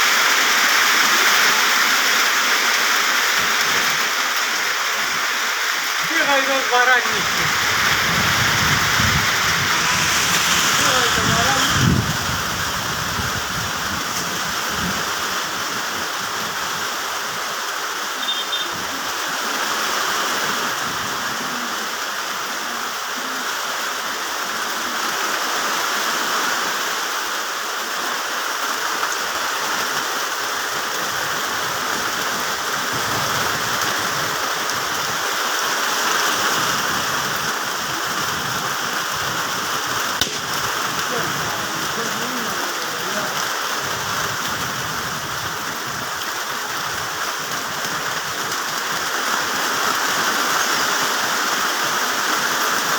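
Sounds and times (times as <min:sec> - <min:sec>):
rain falling on leaves: 0:00.0 - 0:52.9.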